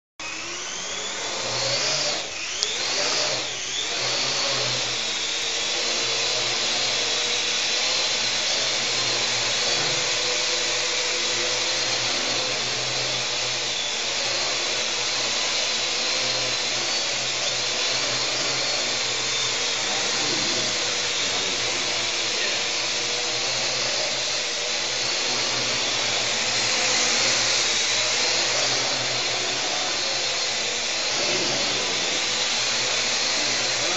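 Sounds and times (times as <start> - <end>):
drone propellers whirring: 0.2 - 33.9.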